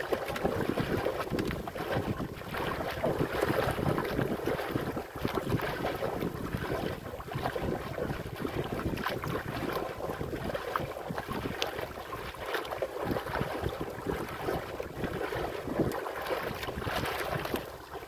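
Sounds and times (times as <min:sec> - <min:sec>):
wind buffeting microphone: 0:00.0 - 0:17.7
waves splashing against boat hull: 0:00.0 - 0:18.0.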